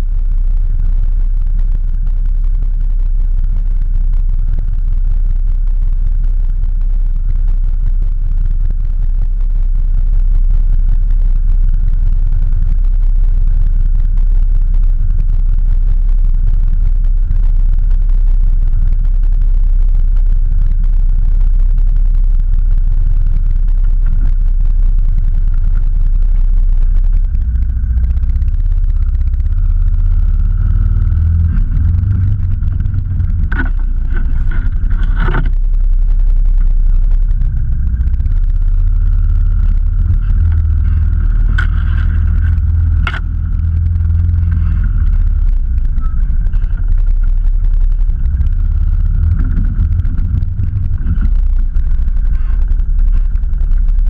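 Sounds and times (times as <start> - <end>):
off-road vehicle engine rumbling: 0.0 - 54.0.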